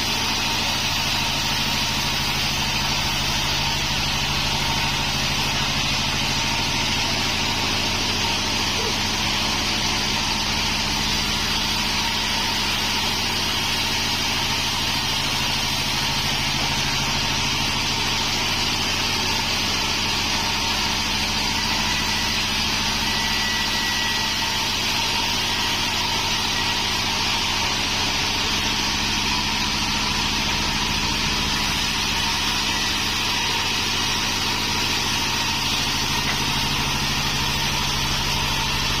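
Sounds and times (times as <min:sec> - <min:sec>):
sawmill droning: 0:00.0 - 0:39.0.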